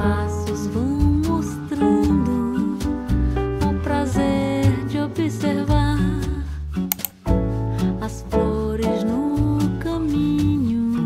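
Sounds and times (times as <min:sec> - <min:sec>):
background song: 0:00.0 - 0:11.0
low bass line: 0:00.0 - 0:11.0.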